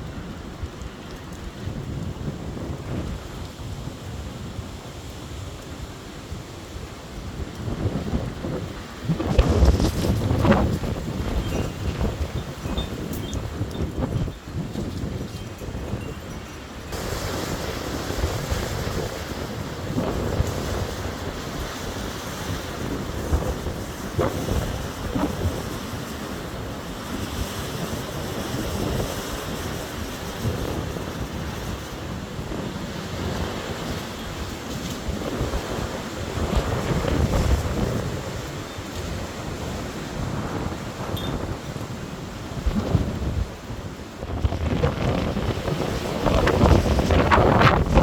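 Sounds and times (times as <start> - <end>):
storm wind gusting: 0.0 - 48.0.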